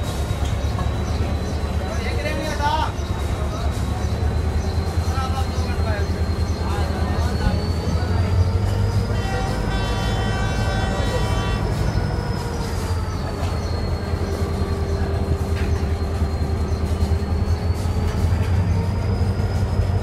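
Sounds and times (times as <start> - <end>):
train coaches rumbling: 0.0 - 20.0.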